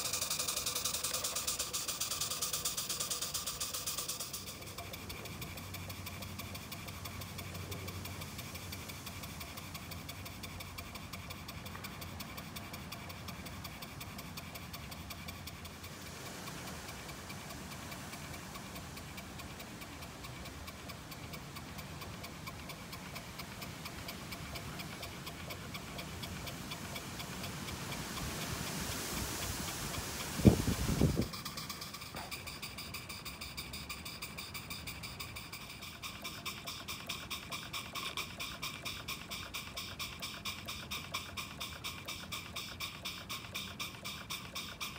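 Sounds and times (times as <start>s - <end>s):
steam engine ticking beat: 0.0s - 44.9s.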